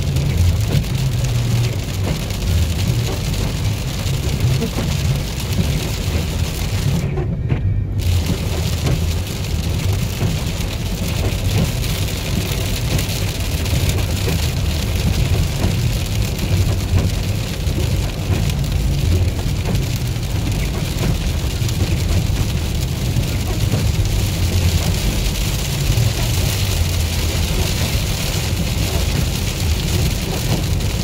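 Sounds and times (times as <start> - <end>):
rain and tyre spray hiss: 0.0 - 7.2, 7.9 - 31.0
road and engine rumble: 0.0 - 31.0.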